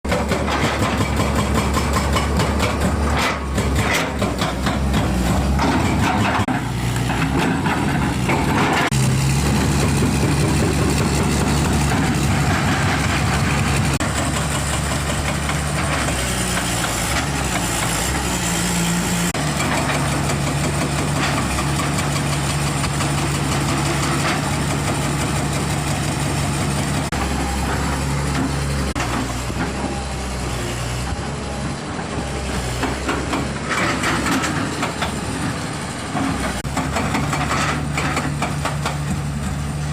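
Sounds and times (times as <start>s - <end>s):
excavator diesel engine running: 0.1s - 39.9s.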